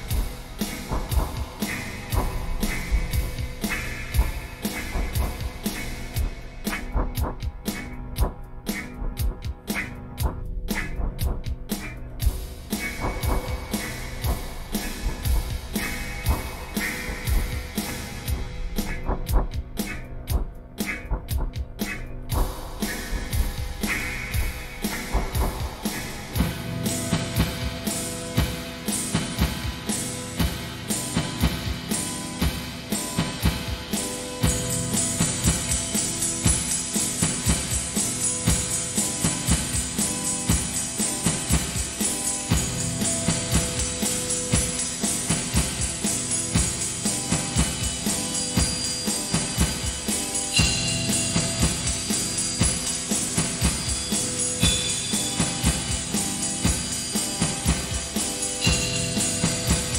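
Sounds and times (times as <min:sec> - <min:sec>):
shimmering cymbal or tambourine: 0:00.0 - 0:06.8, 0:12.2 - 0:18.9, 0:22.4 - 0:59.9
held pitched notes: 0:00.0 - 0:59.9
steady drum beat: 0:00.0 - 0:59.9.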